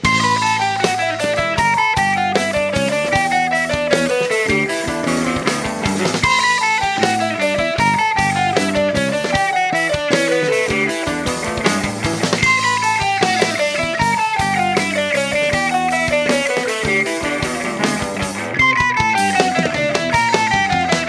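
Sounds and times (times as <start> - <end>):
descending run of notes: 0.0 - 21.0
live rock band playing: 0.0 - 21.0.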